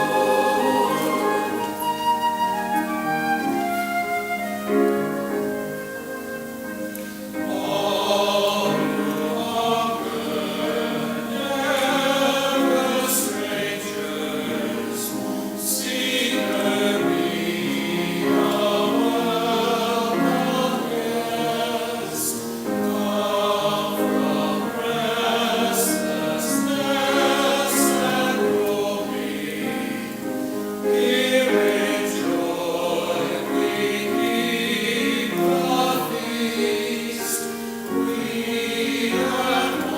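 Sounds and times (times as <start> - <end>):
sustained instrumental accompaniment: 0.0 - 37.0
choir singing a hymn: 0.0 - 39.9.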